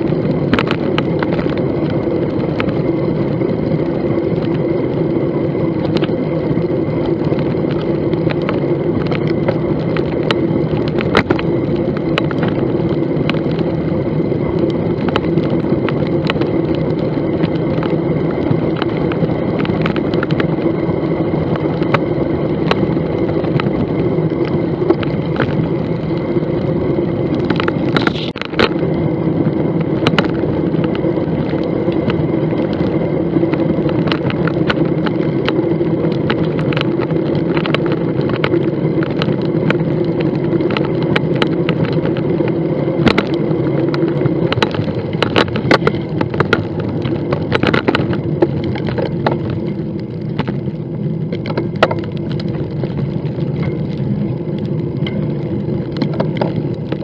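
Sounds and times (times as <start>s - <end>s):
bike rattling over bumps: 0.0s - 57.0s
wind: 0.0s - 57.0s.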